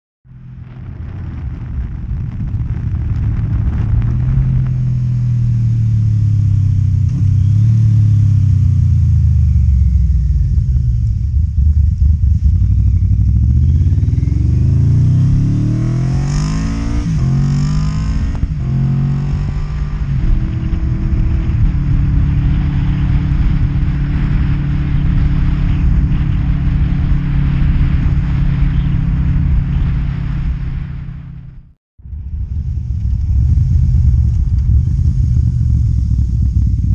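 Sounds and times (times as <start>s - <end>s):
motorcycle engine accelerating: 0.2s - 36.9s.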